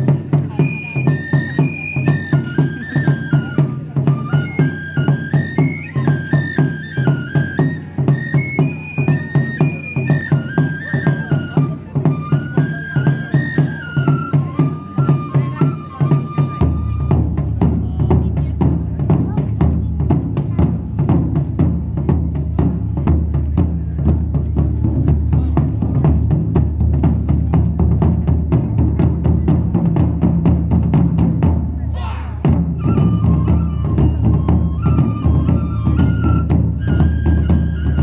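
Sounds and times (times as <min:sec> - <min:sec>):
bamboo flute melody: 0:00.0 - 0:38.0
taiko drums playing: 0:00.0 - 0:38.0.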